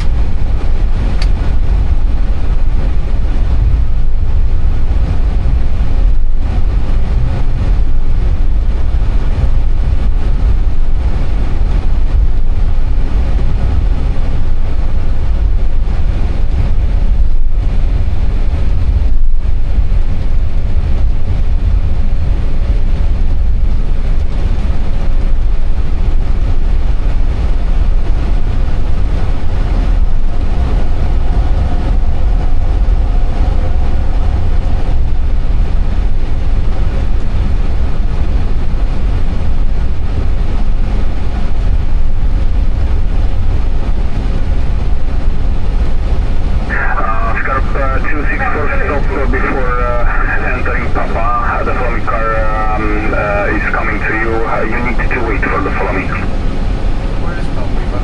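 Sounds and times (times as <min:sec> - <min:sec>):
aircraft cockpit rumble: 0:00.0 - 0:58.0.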